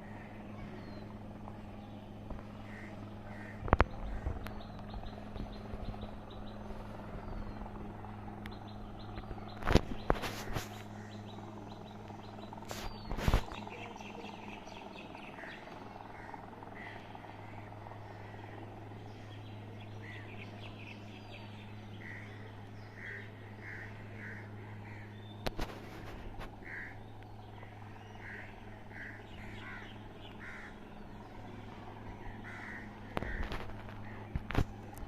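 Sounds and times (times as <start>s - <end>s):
birds calling: 0.0s - 35.0s
steady low hum: 0.0s - 35.0s.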